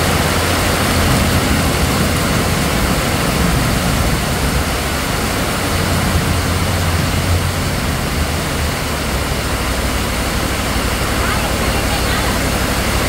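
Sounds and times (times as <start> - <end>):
heavy rain on pavement: 0.0 - 13.0
low rumble: 0.0 - 13.0.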